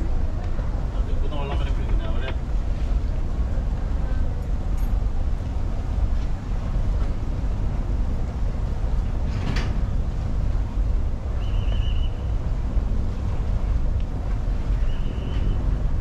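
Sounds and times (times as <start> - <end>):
boat engine rumble: 0.0 - 16.0
wind on microphone: 0.0 - 16.0.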